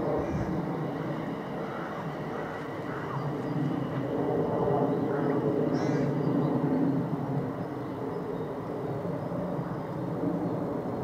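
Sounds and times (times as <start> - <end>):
electric train rumbling along track: 0.0 - 11.0.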